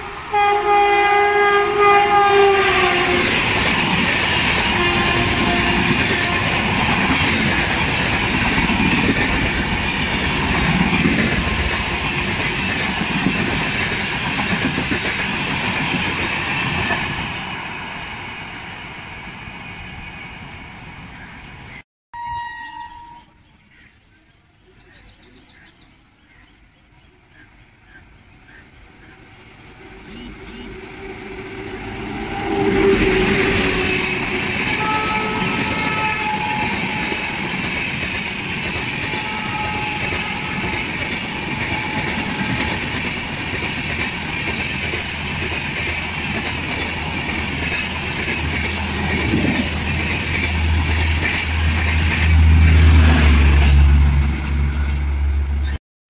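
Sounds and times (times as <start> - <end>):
train rushing and clattering past: 0.0 - 21.8, 27.9 - 55.8.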